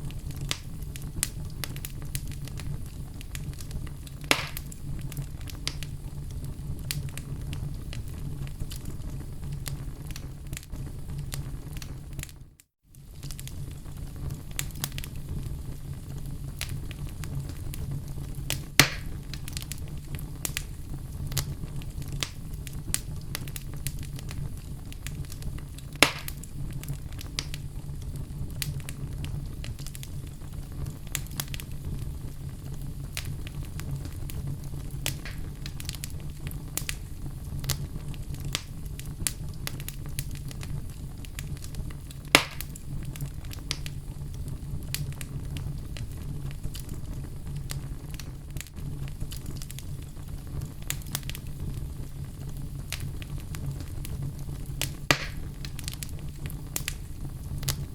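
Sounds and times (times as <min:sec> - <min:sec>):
crackles and pops of burning logs: 0:00.0 - 0:57.9
fire low rumble: 0:00.0 - 0:57.9.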